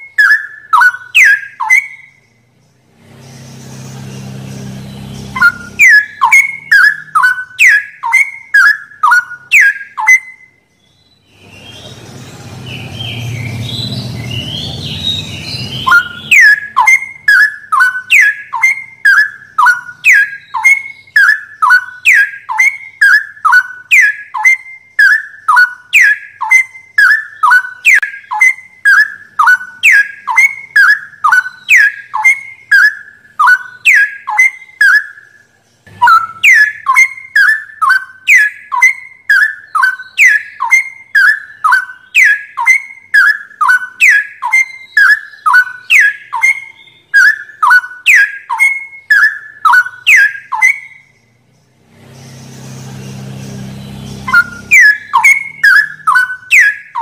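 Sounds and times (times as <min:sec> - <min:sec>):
bird whistled song: 0:00.0 - 0:57.0
low background noise: 0:00.0 - 0:57.0.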